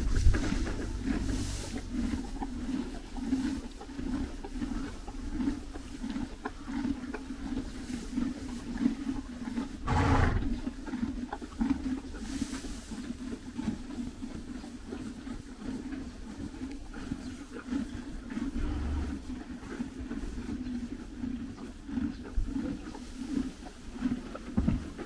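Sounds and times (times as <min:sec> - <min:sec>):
horses chewing hay: 0:00.0 - 0:25.0.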